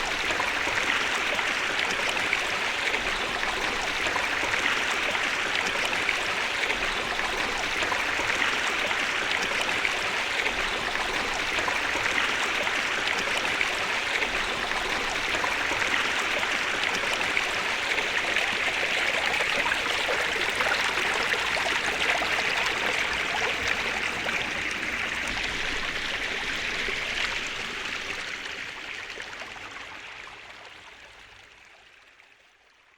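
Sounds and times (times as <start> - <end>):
running water: 0.0 - 32.9.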